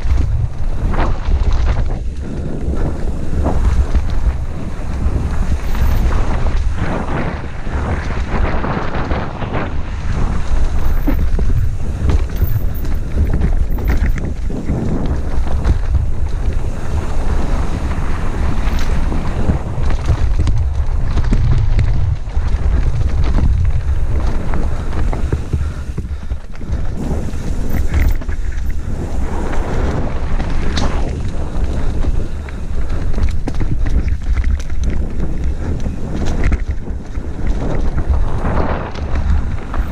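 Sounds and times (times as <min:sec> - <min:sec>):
bike clattering over bumps: 0:00.0 - 0:39.9
tyres rumbling on dirt: 0:00.0 - 0:39.9
wind buffeting microphone: 0:00.0 - 0:39.9.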